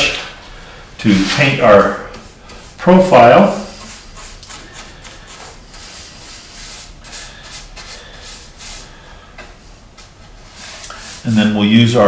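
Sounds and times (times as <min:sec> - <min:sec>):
scratchy paintbrush strokes: 0:01.1 - 0:08.9, 0:09.7 - 0:11.7.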